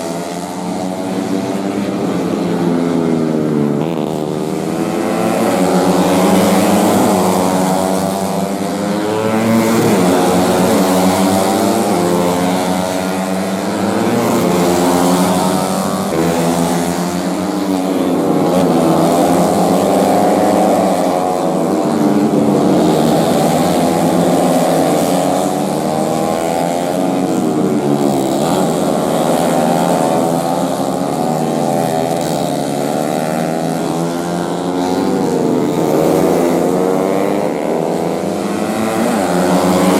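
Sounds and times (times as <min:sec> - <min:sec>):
race motorcycles revving by: 0:00.0 - 0:39.9.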